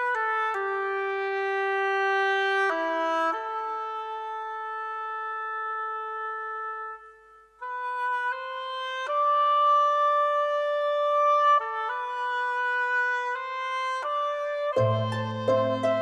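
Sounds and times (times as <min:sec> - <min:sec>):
slow wind-like instrumental melody: 0:00.0 - 0:16.0.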